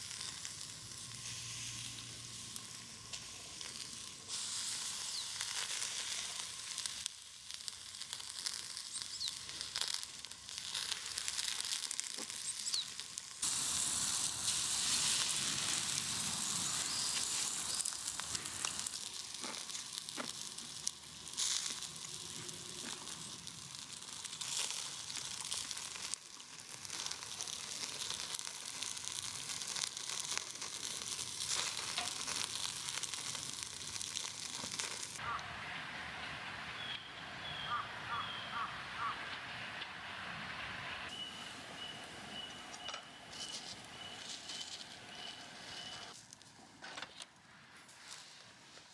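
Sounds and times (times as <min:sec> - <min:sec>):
food sizzling over campfire: 0:00.0 - 0:46.6.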